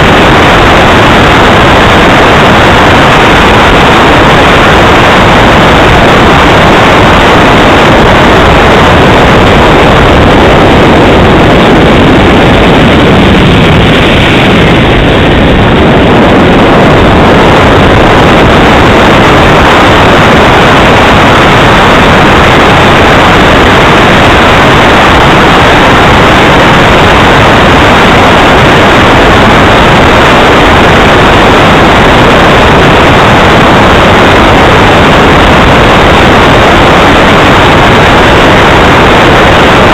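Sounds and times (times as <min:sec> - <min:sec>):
model jet engine rushing: 0:00.0 - 0:39.9.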